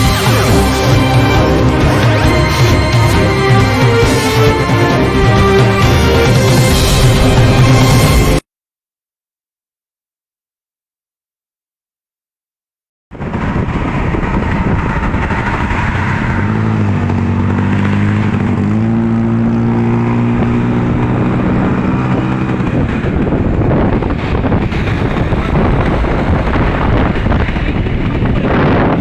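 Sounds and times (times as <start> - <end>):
bus engine passing: 0.0 - 8.4, 13.2 - 29.0
city traffic noise: 0.0 - 8.4, 13.1 - 29.0.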